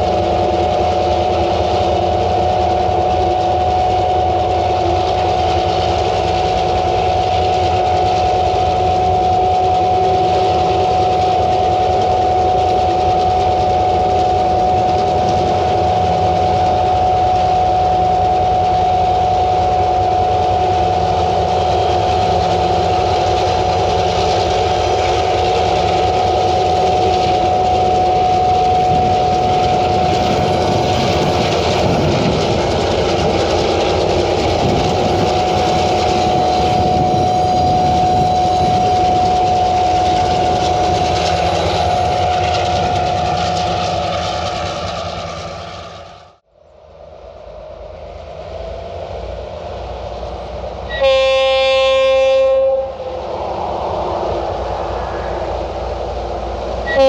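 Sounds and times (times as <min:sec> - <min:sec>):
diesel locomotive running: 0:00.0 - 0:57.0
high whine: 0:00.0 - 0:57.0.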